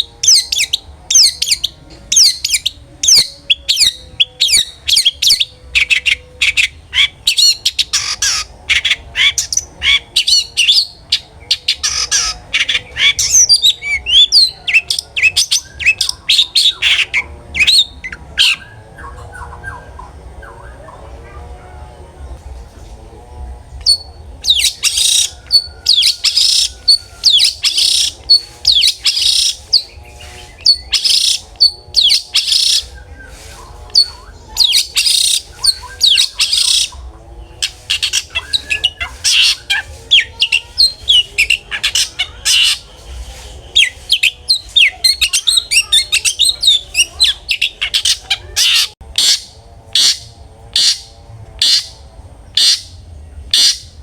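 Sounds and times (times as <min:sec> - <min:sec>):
shrike singing harsh calls: 0:00.0 - 0:21.4, 0:23.8 - 0:54.0.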